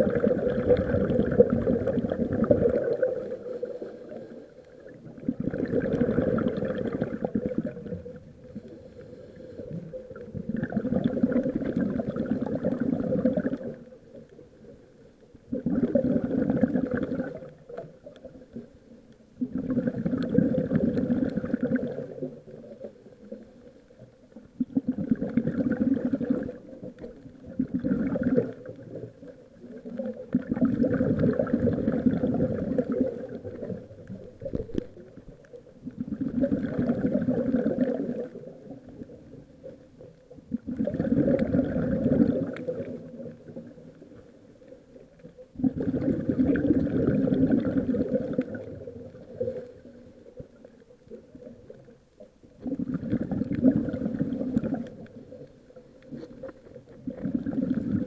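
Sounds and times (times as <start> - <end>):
underwater exhaled air bubbling: 0.0 - 58.0.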